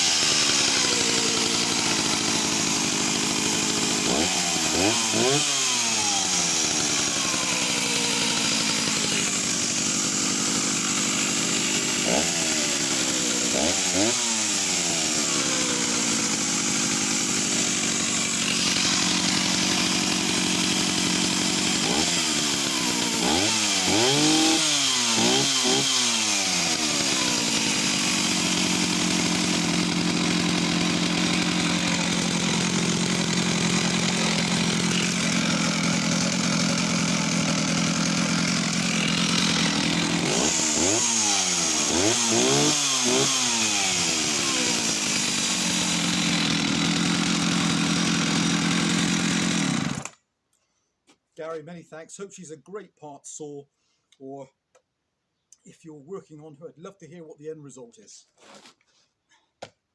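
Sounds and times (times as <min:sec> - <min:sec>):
chainsaw engine revving: 0:00.0 - 0:50.2.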